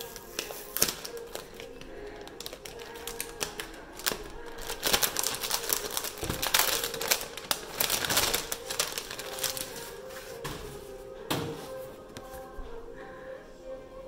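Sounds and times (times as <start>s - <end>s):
gift packaging rustling: 0.0s - 12.6s.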